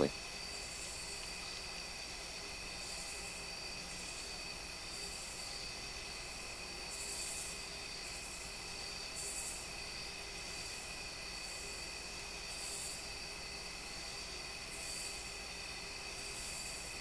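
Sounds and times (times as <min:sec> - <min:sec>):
insect high trill: 0:00.0 - 0:17.0
insect hissing call: 0:00.0 - 0:17.0.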